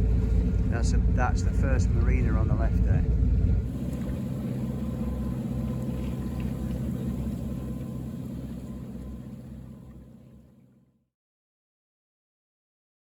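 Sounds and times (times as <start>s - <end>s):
boat engine droning: 0.0s - 10.9s.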